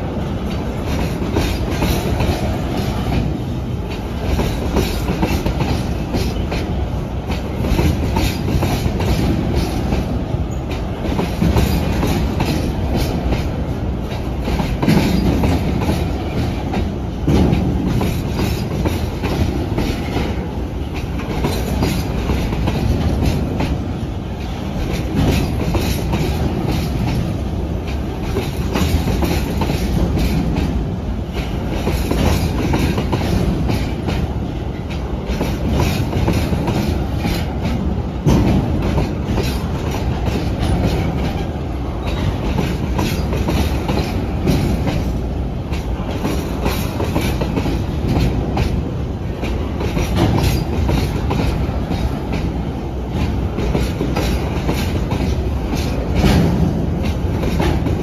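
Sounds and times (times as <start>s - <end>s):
train wheels clicking over rail joints: 0.0s - 58.0s.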